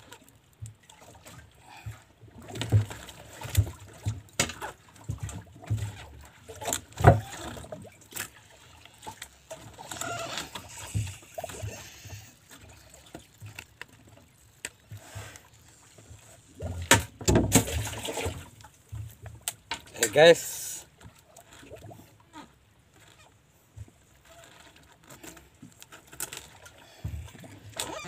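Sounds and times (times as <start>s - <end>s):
water against boat: 0.0s - 28.0s.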